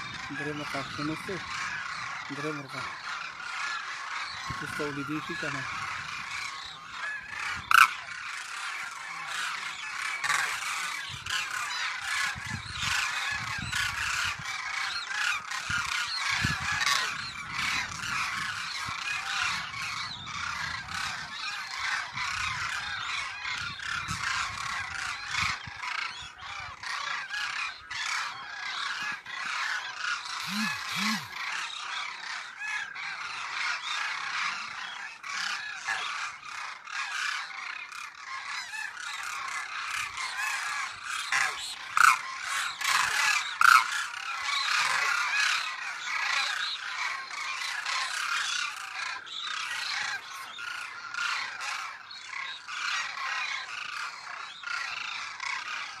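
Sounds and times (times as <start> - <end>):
flock of cranes calling: 0.0 - 56.0.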